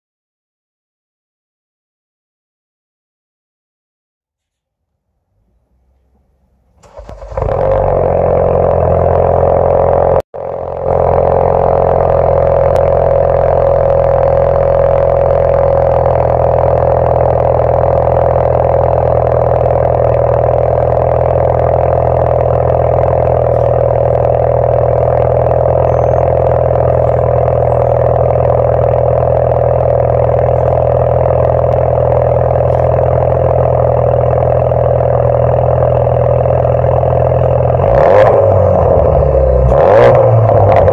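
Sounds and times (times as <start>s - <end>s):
car engine starting and idling: 5.3s - 40.9s.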